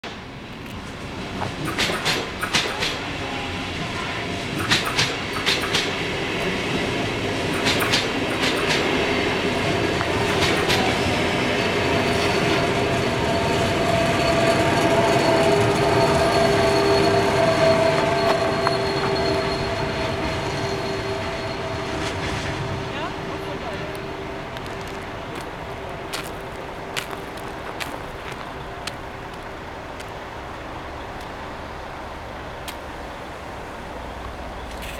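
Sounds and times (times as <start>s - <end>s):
train wheels clacking over rail joints: 0.7s - 30.2s
train motor whine: 0.8s - 29.9s.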